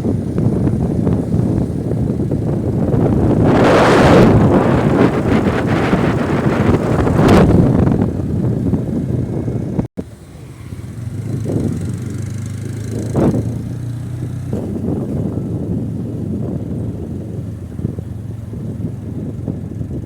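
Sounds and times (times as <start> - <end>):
wind noise on microphone: 0.0 - 9.9, 10.7 - 20.0
motorcycle engine hum: 0.0 - 20.0.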